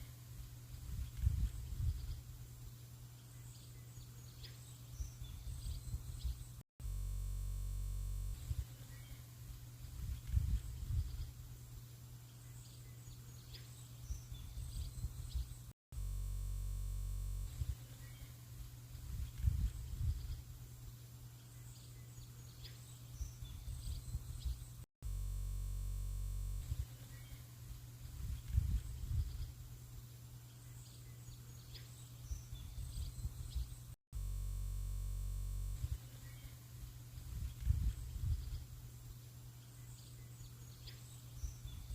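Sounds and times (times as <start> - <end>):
small birds chirping: 0.0 - 6.6, 8.3 - 15.7, 17.5 - 24.9, 26.6 - 34.0, 35.8 - 41.9
flat steady hum: 0.0 - 41.9.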